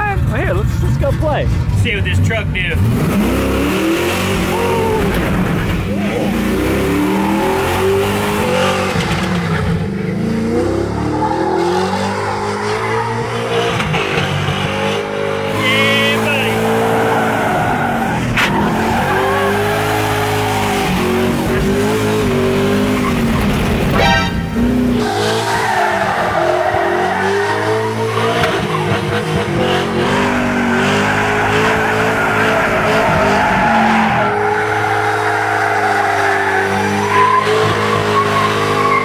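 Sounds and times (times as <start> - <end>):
tires squealing: 2.7 - 39.0
engine revving hard: 2.8 - 9.4, 10.2 - 38.9.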